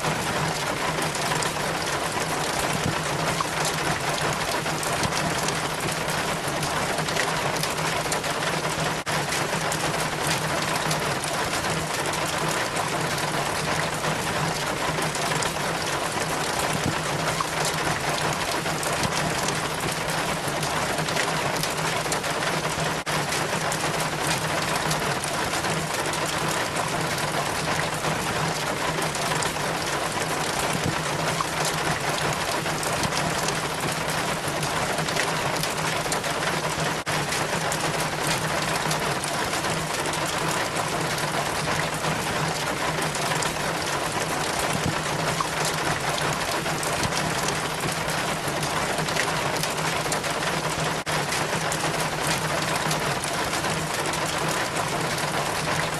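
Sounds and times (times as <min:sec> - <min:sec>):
rainwater trickling down rain chain: 0:00.0 - 0:55.9.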